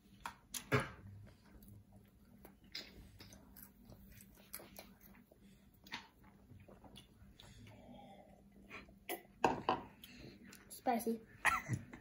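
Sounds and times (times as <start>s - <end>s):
child chewing french fries: 0.0s - 12.0s.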